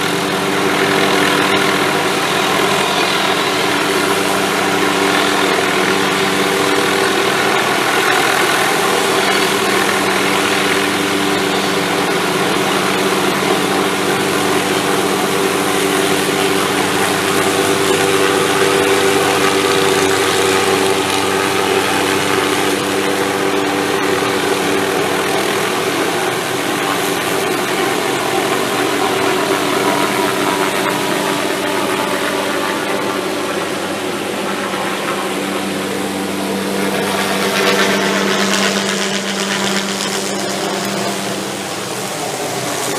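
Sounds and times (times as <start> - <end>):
helicopter engine and rotors: 0.0 - 42.9.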